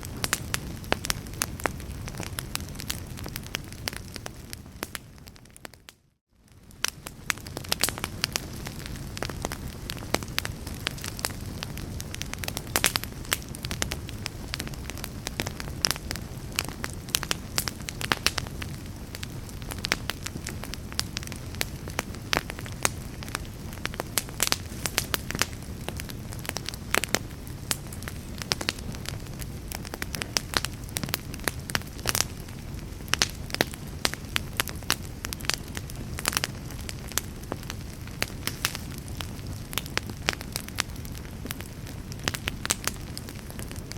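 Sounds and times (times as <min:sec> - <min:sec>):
fireplace fire crackling: 0:00.0 - 0:43.9
sharp pops of fire: 0:06.7 - 0:43.9.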